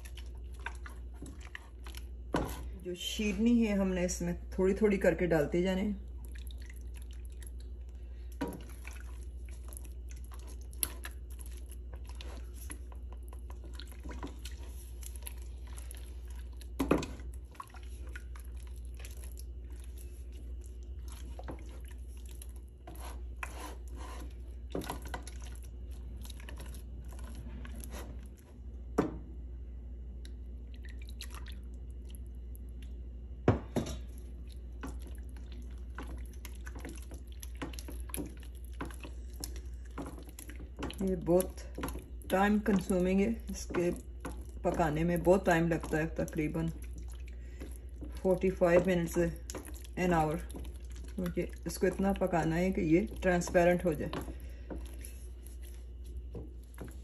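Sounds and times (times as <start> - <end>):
wet squelching mixture: 0.0 - 29.0, 30.0 - 57.0
steady low hum: 0.0 - 57.0.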